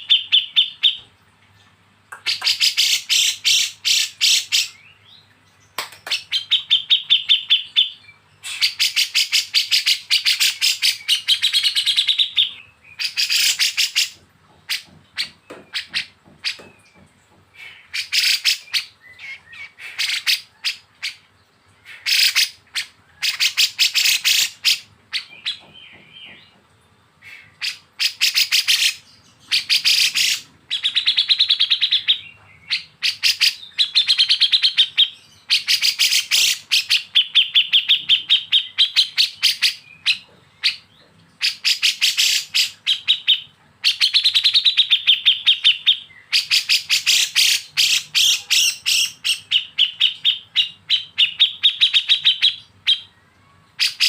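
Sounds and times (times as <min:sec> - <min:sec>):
bulbuls singing rattling trills: 0:00.0 - 0:53.2.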